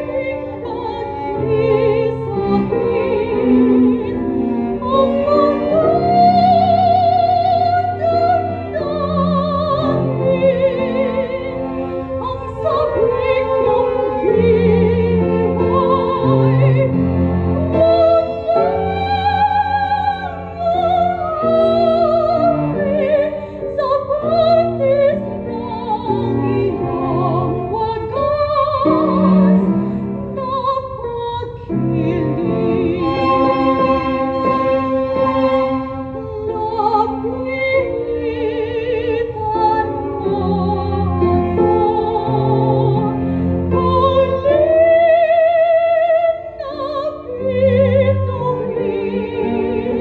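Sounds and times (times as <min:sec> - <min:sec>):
piano: 0:00.0 - 0:50.0
string quartet: 0:00.0 - 0:50.0
woman singing classical style: 0:00.0 - 0:50.0.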